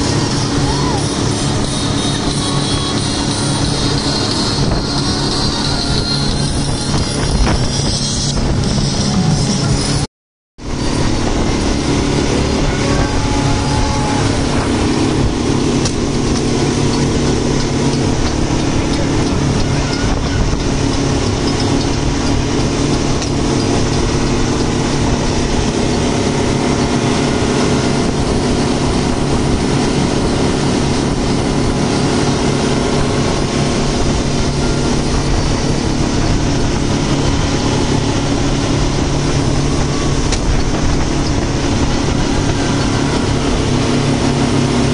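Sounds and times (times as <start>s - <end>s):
speedboat engine hum: 0.0s - 44.9s
water and wind rushing: 0.0s - 44.9s.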